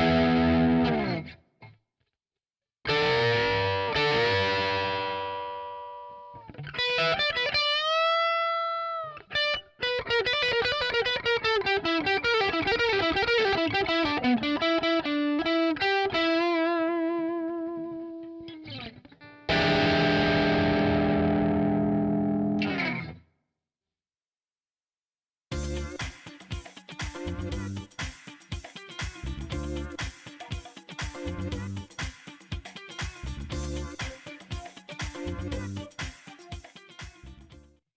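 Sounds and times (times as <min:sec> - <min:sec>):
distorted electric guitar: 0:00.0 - 0:01.4, 0:02.9 - 0:23.2, 0:25.5 - 0:37.6.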